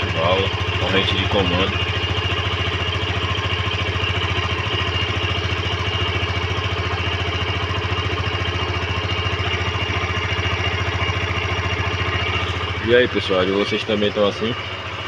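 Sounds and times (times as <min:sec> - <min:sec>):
light engine ticking: 0:00.0 - 0:15.0
motorcycle engine idling: 0:00.0 - 0:15.0.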